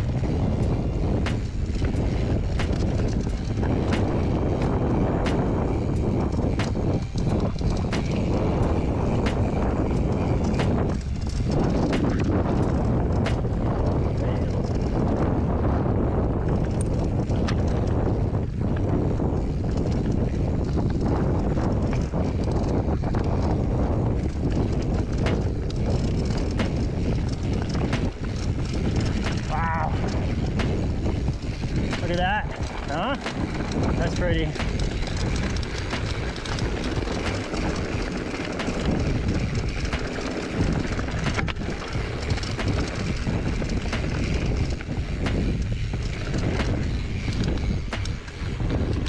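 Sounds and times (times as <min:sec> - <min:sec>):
bike clicks and rattles: 0:00.0 - 0:49.0
tyre and wind rush: 0:00.0 - 0:49.0.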